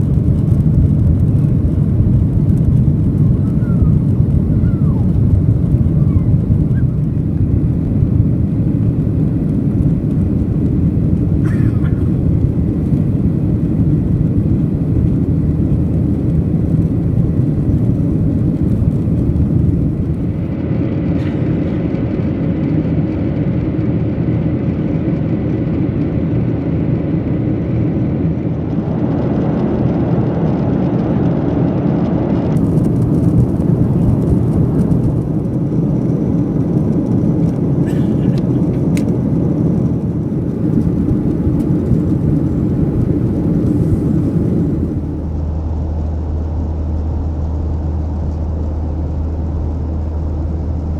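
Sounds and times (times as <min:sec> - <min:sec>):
airplane cabin noise: 0:00.0 - 0:50.9
jet engines humming: 0:00.0 - 0:50.9.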